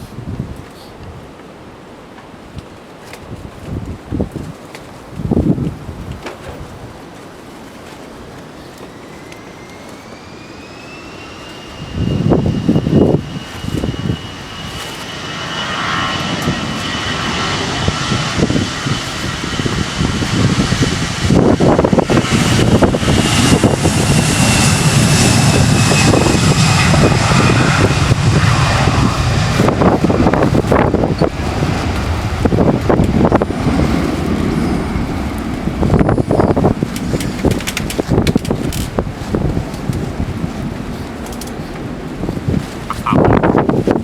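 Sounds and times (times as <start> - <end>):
wind buffeting microphone: 0.0 - 1.4, 2.5 - 7.5, 9.2 - 44.0
jet airliner passing: 5.3 - 44.0.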